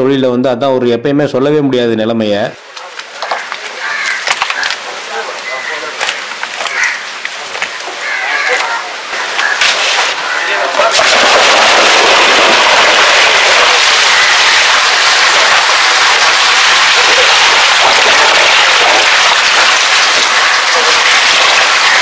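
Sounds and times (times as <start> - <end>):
water and fish splashing: 2.6 - 22.0.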